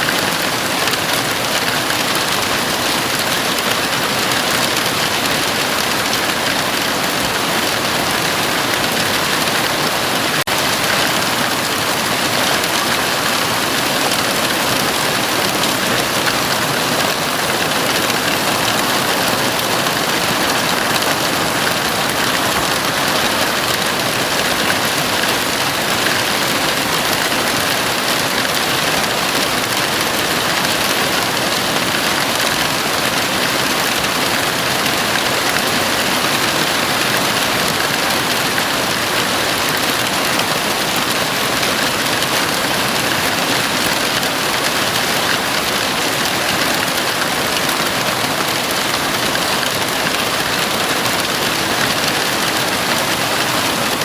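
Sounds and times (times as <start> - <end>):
heavy rain drumming on roof: 0.0 - 54.0.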